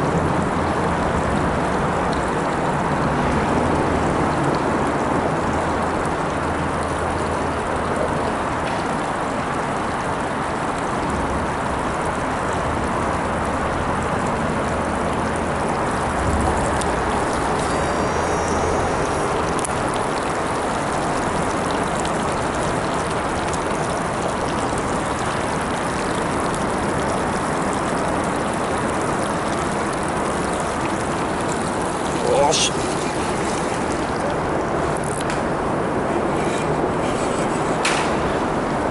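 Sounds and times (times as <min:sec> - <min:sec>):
water rushing at shore: 0:00.0 - 0:38.9.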